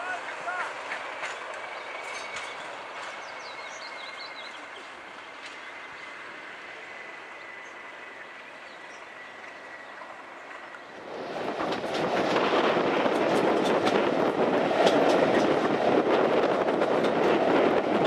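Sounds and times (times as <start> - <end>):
train wheels on rails: 0.0 - 18.0.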